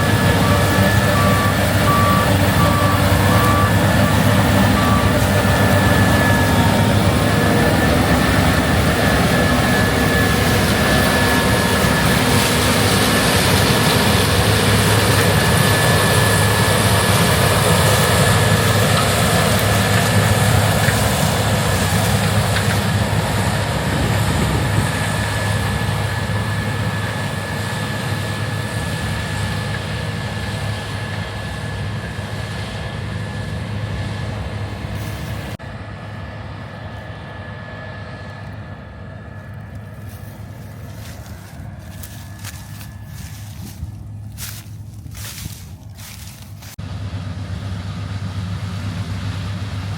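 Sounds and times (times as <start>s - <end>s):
harvest machinery engine hum: 0.0s - 49.9s
high machine whine: 0.0s - 49.9s.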